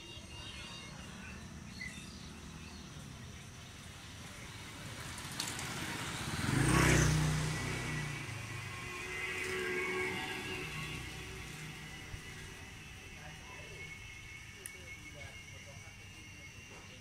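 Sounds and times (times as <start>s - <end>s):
street noise: 0.0s - 17.0s
vehicle engine rumble passing: 0.4s - 17.0s.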